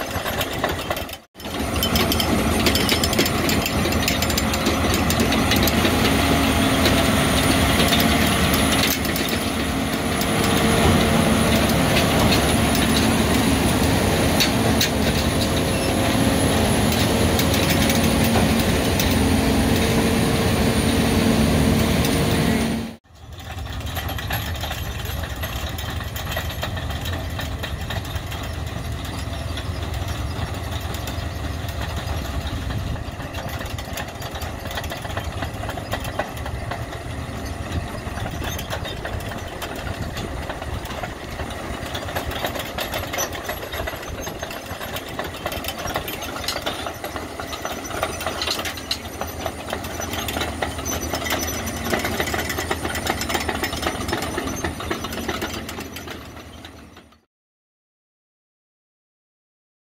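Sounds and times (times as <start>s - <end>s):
heavy machinery engine clattering: 0.0s - 57.3s.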